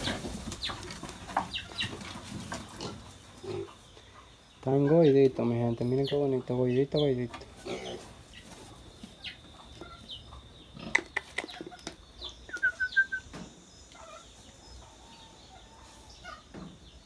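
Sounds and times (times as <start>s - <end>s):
farm animal calls: 0.0s - 17.0s.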